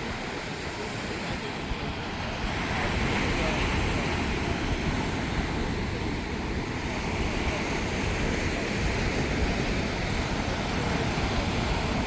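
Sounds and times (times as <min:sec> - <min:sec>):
sea surf: 0:00.0 - 0:12.0.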